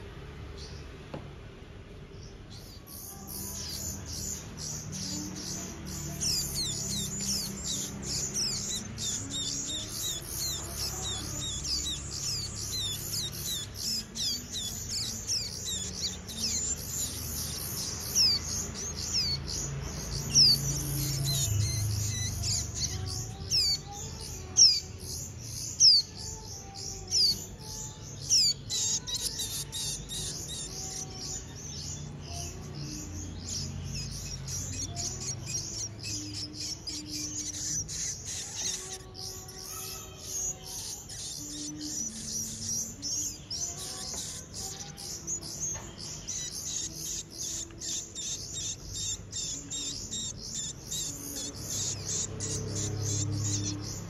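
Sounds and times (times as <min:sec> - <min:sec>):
chicks begging chirps: 0:00.0 - 0:54.0
downward-sweeping bird calls: 0:02.1 - 0:54.0.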